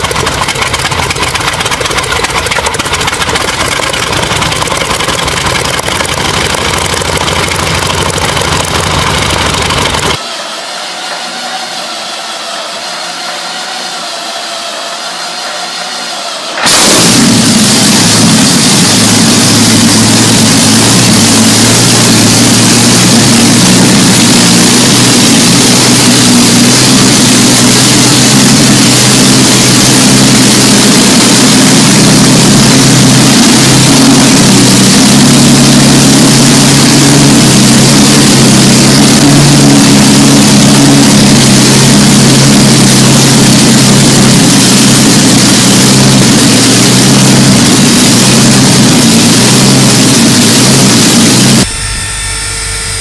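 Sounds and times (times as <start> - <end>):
large engine running loud: 0.0 - 53.0.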